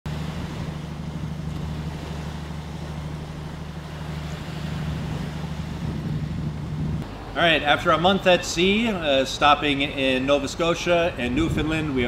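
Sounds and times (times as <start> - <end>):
boat engine droning: 0.0 - 12.0
constant hiss: 0.1 - 12.0.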